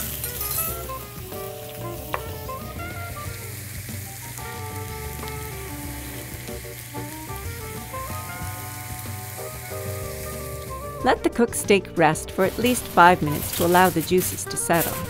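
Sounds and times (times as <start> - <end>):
food sizzling in pans: 0.0 - 15.0
soft background music: 0.0 - 15.0.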